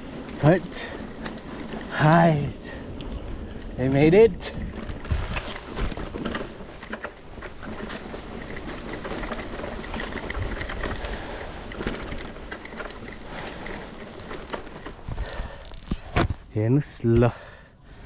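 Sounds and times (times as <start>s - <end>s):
bike clicks and scuffs on dirt: 0.0s - 17.3s
wind rumble on microphone: 1.1s - 16.6s.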